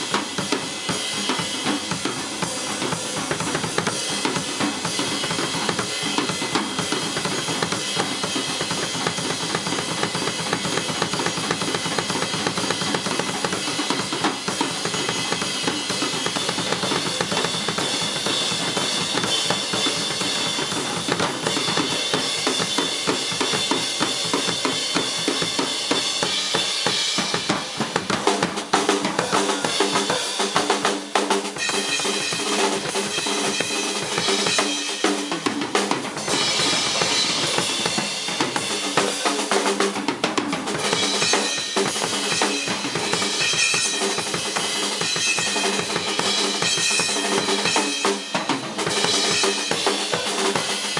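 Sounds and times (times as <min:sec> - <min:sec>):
cymbals: 0:00.0 - 0:50.9
snare drum: 0:00.0 - 0:50.9.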